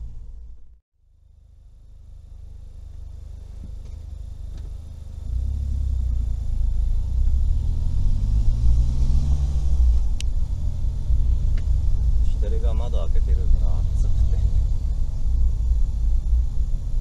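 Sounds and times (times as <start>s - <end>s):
car engine: 0.0s - 17.0s
road rumble inside car: 0.0s - 17.0s.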